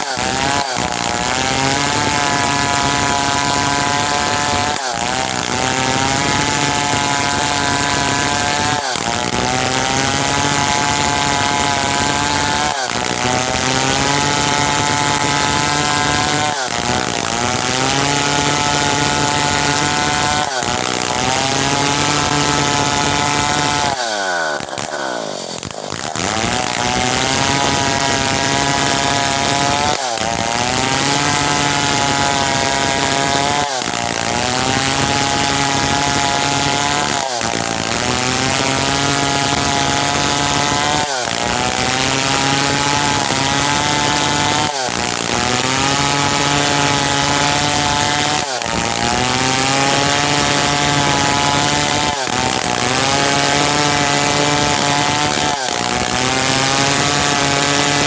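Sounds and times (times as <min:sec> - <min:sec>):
chainsaw sawing hardwood: 0:00.0 - 0:58.0.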